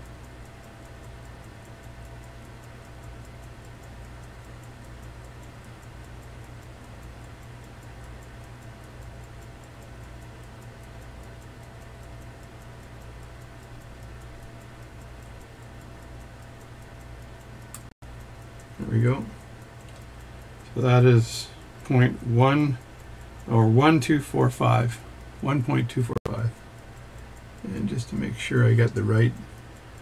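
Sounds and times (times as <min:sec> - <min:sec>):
fast mechanical ticking: 0:00.0 - 0:30.0
low steady hum: 0:00.0 - 0:30.0.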